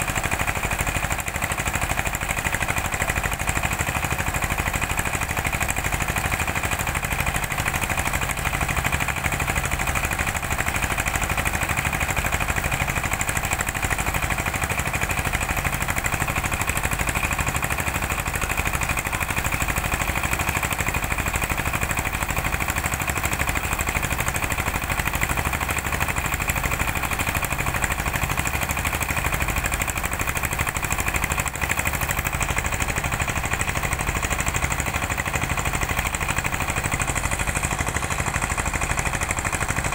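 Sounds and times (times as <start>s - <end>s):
engine running with clatter: 0.0s - 39.9s.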